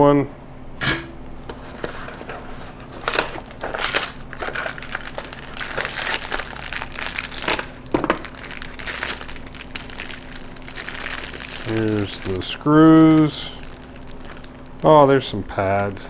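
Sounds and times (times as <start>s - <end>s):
plastic packaging crinkling: 1.6s - 16.0s.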